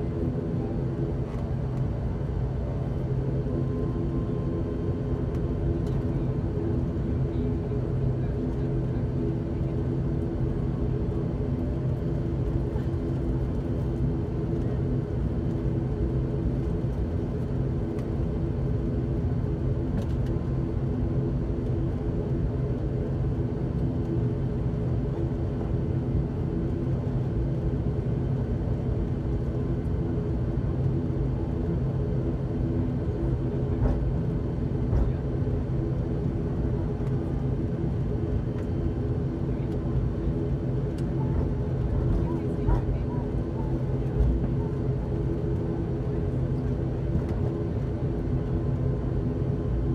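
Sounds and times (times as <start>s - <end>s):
turboprop engines droning in cabin: 0.0s - 49.9s.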